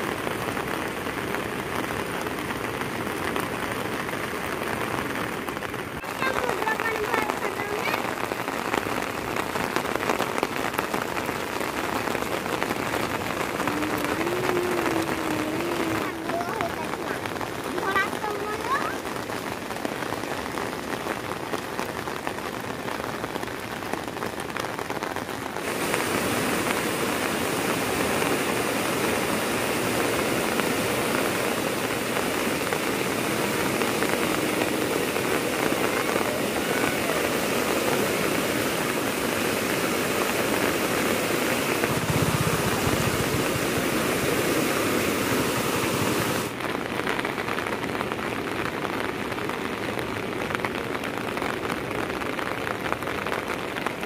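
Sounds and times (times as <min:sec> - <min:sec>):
floodwater rushing in a river: 0:00.0 - 0:54.0.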